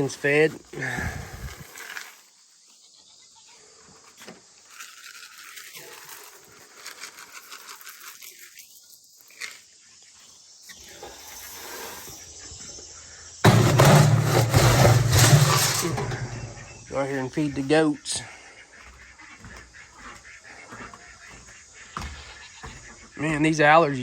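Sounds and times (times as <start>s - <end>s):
insects: 0.0s - 24.0s.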